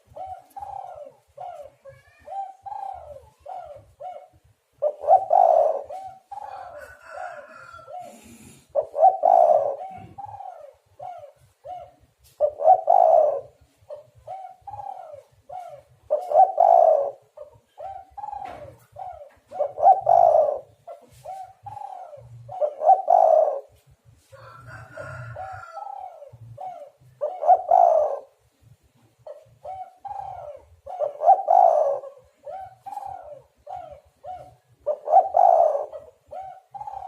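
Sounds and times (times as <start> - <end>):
dove cooing: 0.0 - 37.0.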